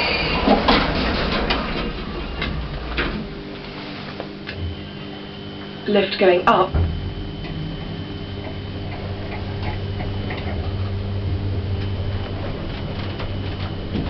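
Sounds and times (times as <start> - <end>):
lift drive humming: 0.0 - 14.0.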